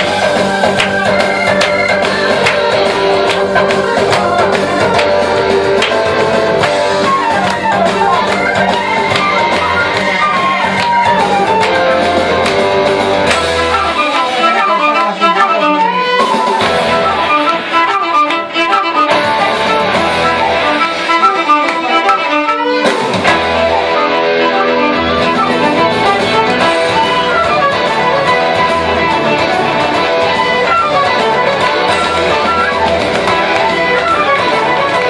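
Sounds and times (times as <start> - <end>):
bass accompaniment: 0.0 - 35.0
flute playing: 0.0 - 35.0
violin playing: 0.0 - 35.0.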